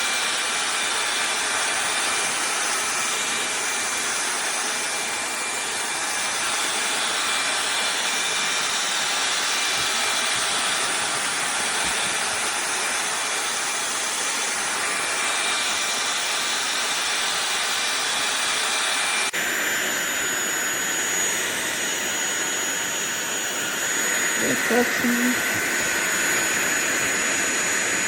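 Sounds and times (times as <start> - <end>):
stick vacuum motor whine: 0.0 - 28.0.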